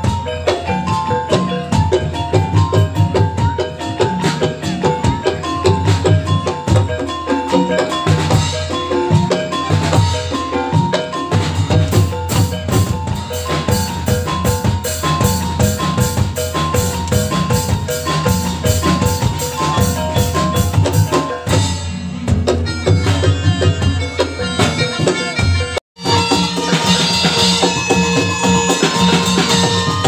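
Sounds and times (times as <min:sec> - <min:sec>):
gamelan music over loudspeakers: 0:00.0 - 0:30.0
high percussive strokes: 0:00.0 - 0:30.0.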